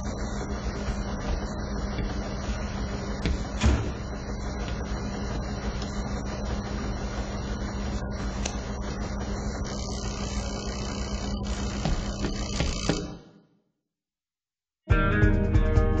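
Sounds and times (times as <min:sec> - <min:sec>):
low mechanical hum of machinery: 0:00.0 - 0:13.6.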